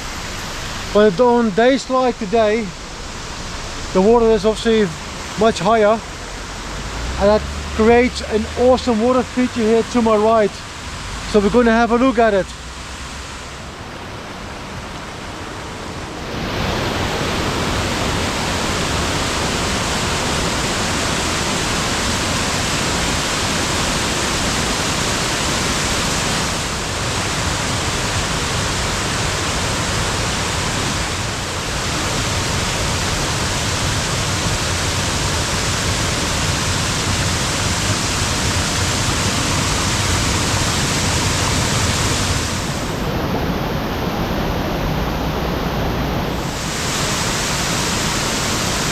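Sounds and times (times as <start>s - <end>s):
creek water rushing: 0.0s - 48.9s.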